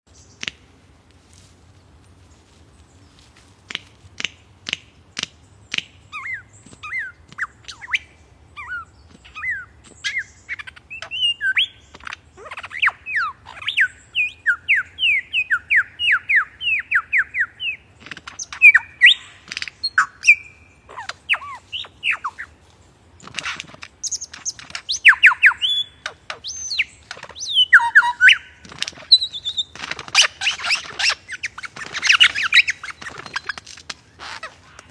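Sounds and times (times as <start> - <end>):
bird calling: 3.1 - 34.9.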